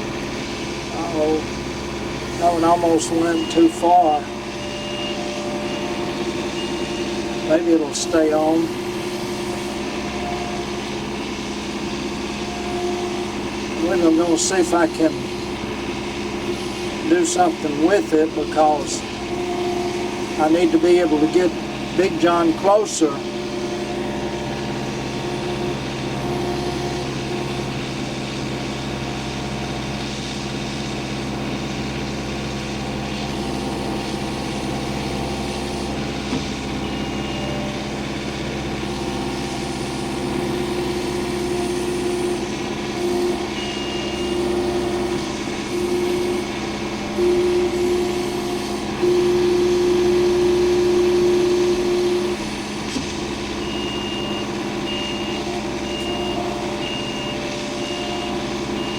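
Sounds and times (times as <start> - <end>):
machine engine running: 0.0 - 58.9
reversing alarm beeps: 0.0 - 58.9.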